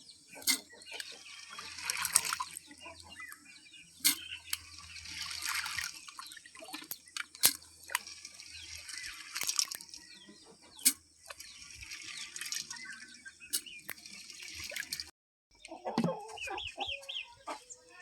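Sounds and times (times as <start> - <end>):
water splashing and dripping: 0.3 - 16.3.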